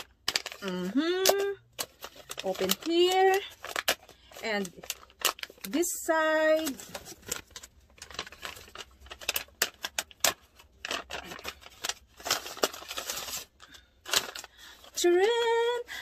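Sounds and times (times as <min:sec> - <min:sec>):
envelope crinkling and tearing: 0:00.0 - 0:15.0.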